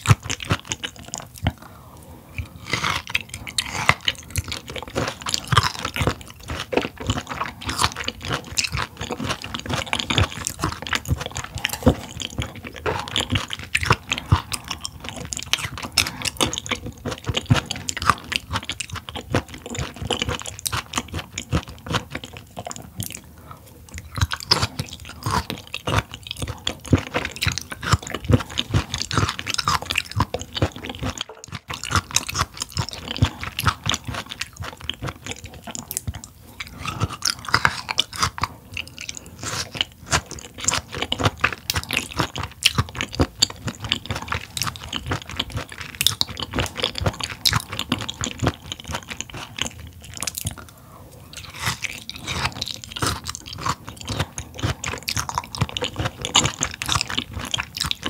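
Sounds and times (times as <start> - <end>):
crisp chewing: 0.0 - 1.7, 2.3 - 58.0.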